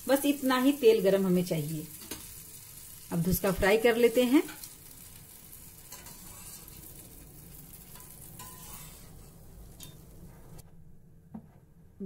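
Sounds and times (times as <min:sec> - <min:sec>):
batter sizzling in hot oil: 0:00.0 - 0:10.6.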